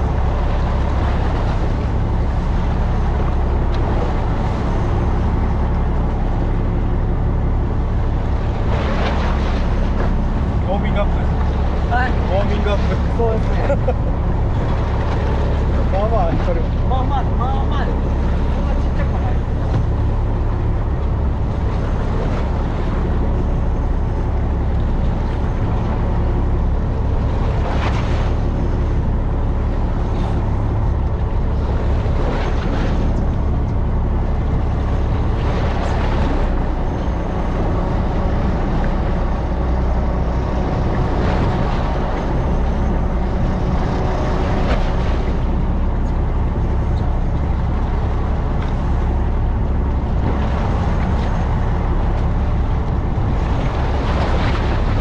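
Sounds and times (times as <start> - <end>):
boat engine rumbling: 0.0 - 55.0
water rushing along hull: 0.0 - 55.0
water swishes: 0.0 - 55.0.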